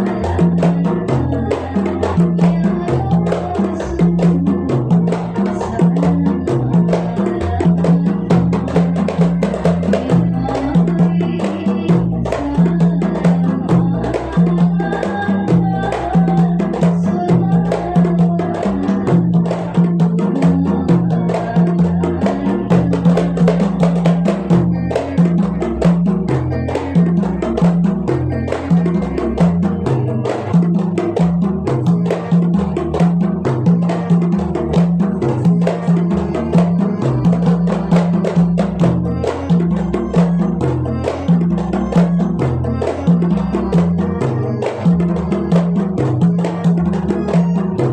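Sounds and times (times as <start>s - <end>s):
instrumental song with bass: 0.0s - 47.9s.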